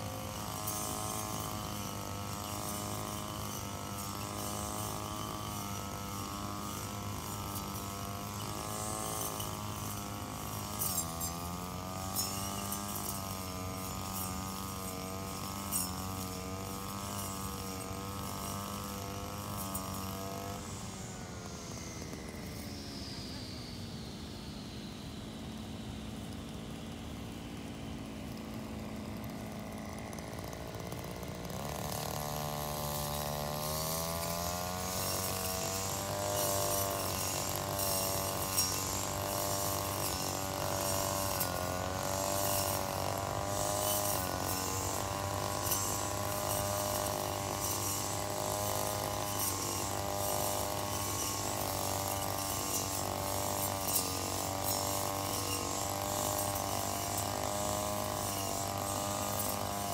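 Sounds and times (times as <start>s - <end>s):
brush cutter engine: 0.0s - 59.9s.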